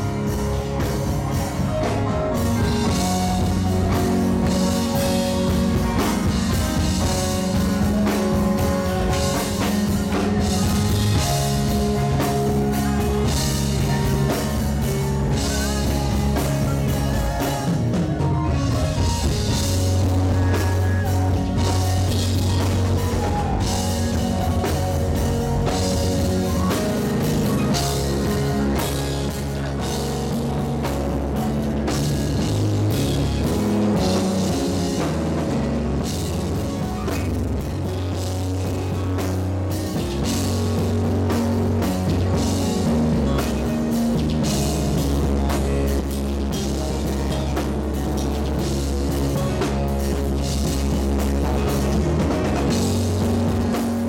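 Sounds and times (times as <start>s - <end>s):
drum beat: 0.0s - 54.0s
gospel band playing: 0.0s - 54.0s.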